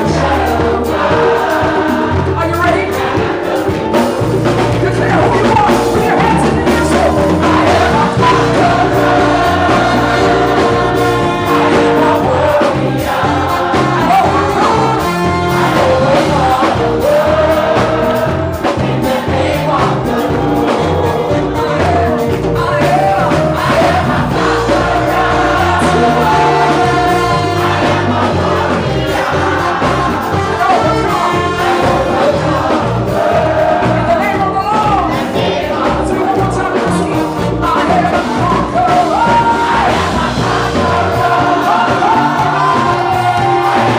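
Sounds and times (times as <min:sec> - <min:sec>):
band with bass and drums: 0:00.0 - 0:43.9
choir and congregation singing: 0:00.0 - 0:43.9.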